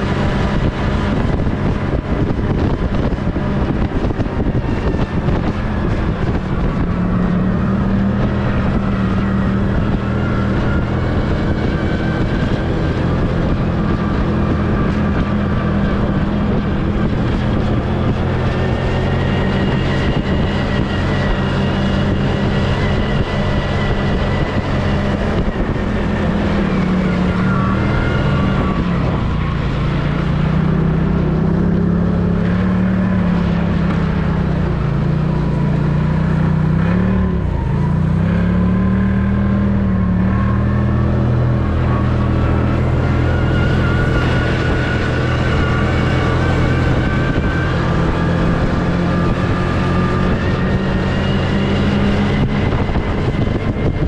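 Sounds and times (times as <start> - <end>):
snowmobile engine under load: 0.0 - 54.0.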